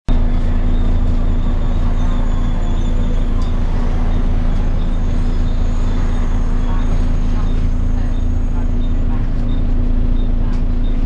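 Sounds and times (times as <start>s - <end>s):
bus diesel engine hum: 0.1s - 11.0s
high whine: 0.1s - 11.0s.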